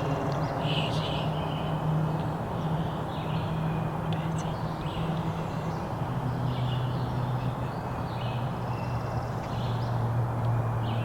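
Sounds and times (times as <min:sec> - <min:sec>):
low drone: 0:00.0 - 0:11.0
rushing background noise: 0:00.0 - 0:11.0
songbirds singing: 0:00.0 - 0:11.0.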